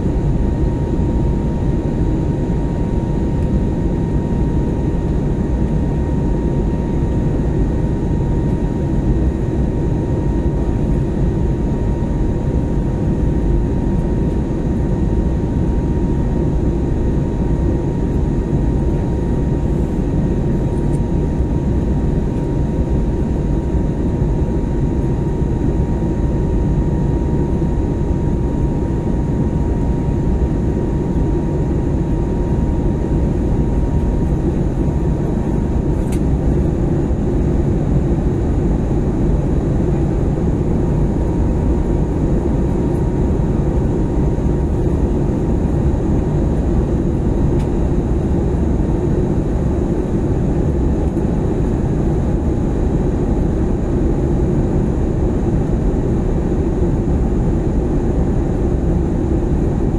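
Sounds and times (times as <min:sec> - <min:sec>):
airplane engine roar in cabin: 0:00.0 - 0:59.9.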